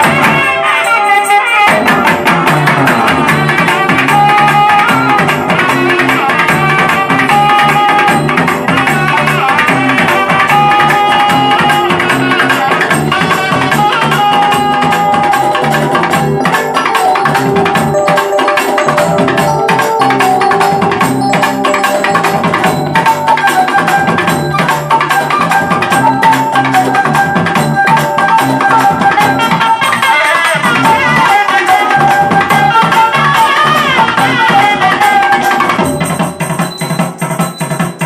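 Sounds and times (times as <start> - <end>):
double-reed pipe melody: 0.0 - 37.2
fast drumming on barrel drums: 1.7 - 38.0.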